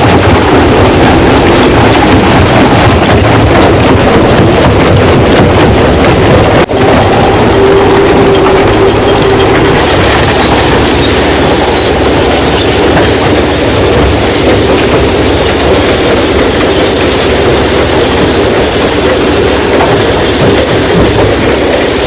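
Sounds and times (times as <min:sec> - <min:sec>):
stone crushing machine clatter: 0:00.0 - 0:22.0.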